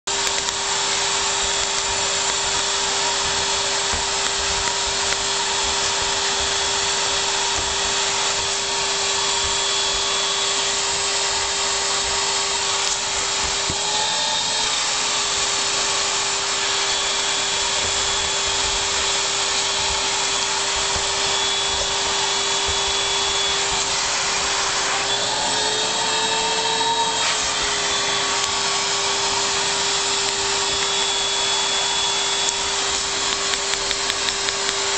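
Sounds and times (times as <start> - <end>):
vacuum cleaner motor whirring: 0.1 - 34.9.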